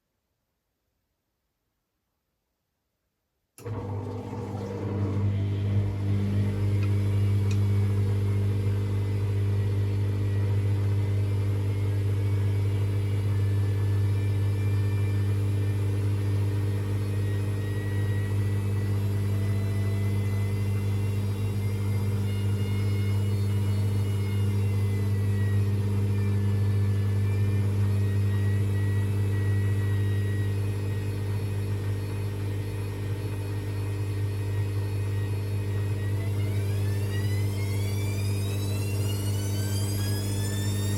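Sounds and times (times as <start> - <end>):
washing machine running: 3.6 - 40.9.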